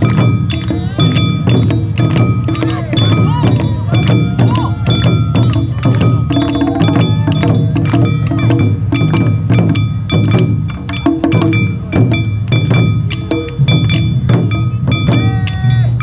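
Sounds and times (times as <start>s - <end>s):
barrel drums pounding: 0.0s - 16.0s.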